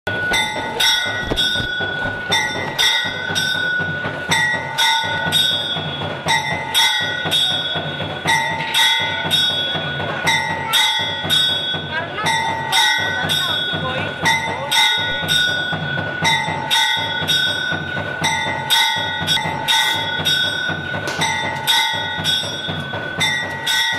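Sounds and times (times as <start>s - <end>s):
bell-like metallic ringing: 0.1s - 23.9s.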